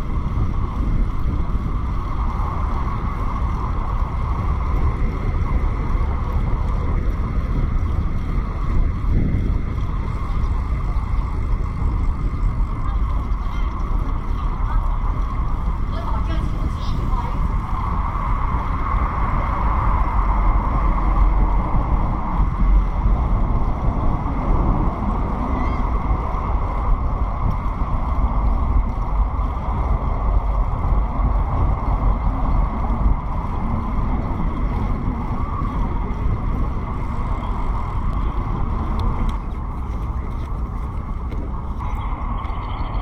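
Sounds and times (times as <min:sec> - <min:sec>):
bicycle tyre noise: 0:00.0 - 0:43.0
wind buffeting microphone: 0:00.0 - 0:43.0.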